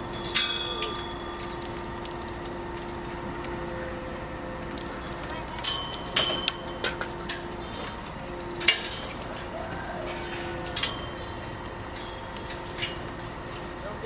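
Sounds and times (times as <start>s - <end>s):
sharp metallic clinks: 0.0s - 14.0s
steady machine hum: 0.0s - 14.0s.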